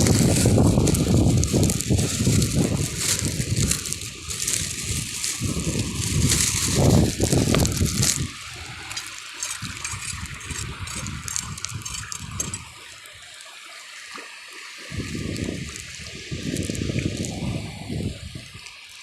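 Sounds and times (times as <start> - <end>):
shallow water sloshing: 0.0 - 18.7.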